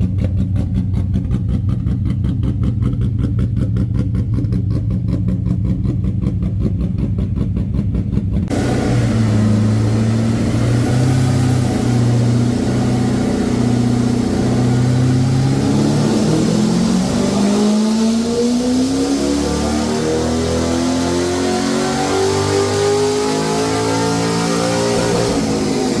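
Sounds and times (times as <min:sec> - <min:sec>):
car engine revving through exhaust: 0:00.0 - 0:26.0.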